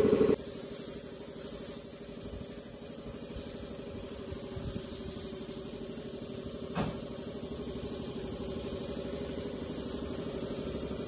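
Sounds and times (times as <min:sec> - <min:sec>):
motor running with pulsing beat: 0:00.0 - 0:11.0.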